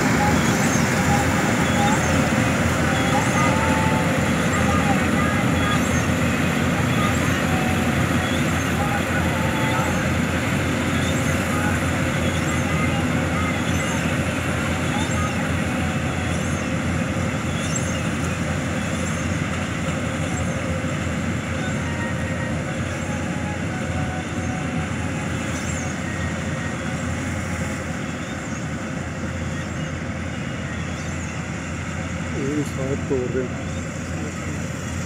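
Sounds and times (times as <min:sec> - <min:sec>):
combine harvesters droning: 0:00.0 - 0:35.0.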